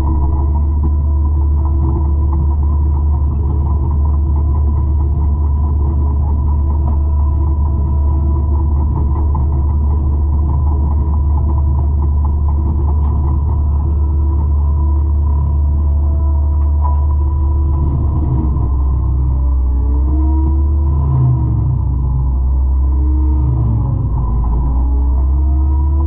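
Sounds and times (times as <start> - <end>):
forestry mulcher running: 0.0 - 26.0.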